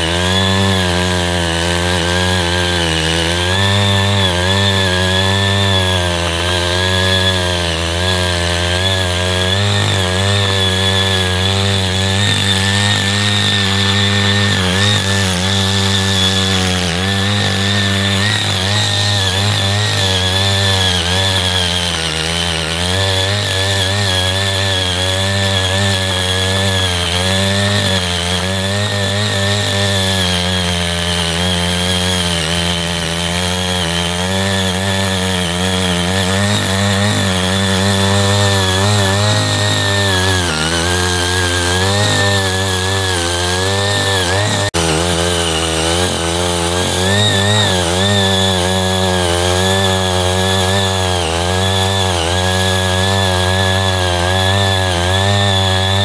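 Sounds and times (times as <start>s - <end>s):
power tiller engine running: 0.0s - 56.0s.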